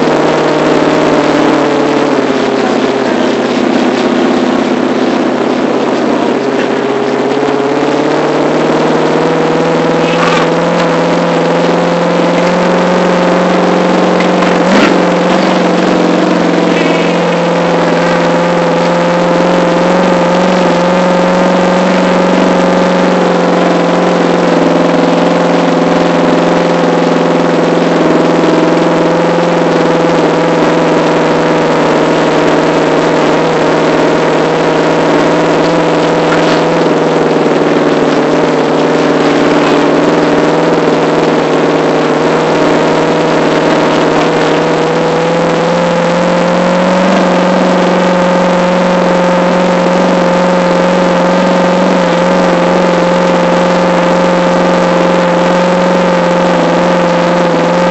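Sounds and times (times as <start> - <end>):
truck engine running loudly: 0.0 - 57.9.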